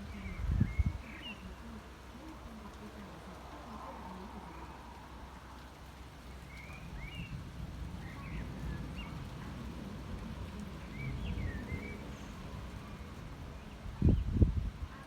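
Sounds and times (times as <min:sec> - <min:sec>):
small birds chirping: 0:00.0 - 0:14.5
low outdoor rumble: 0:00.0 - 0:15.0.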